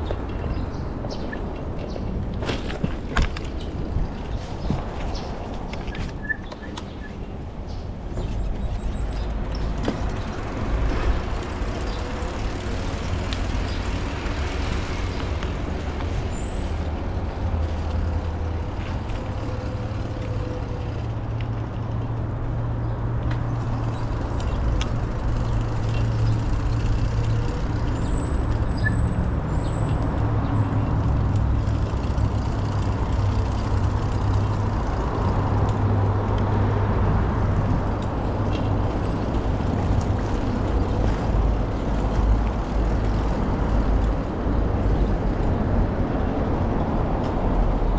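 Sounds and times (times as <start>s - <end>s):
traffic rumble overhead: 0.0s - 47.9s.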